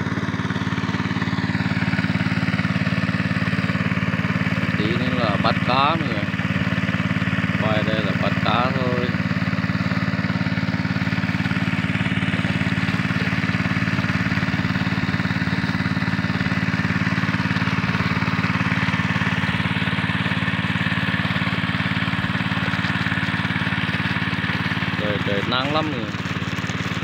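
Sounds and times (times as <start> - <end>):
engine-driven water pump running: 0.0 - 27.0.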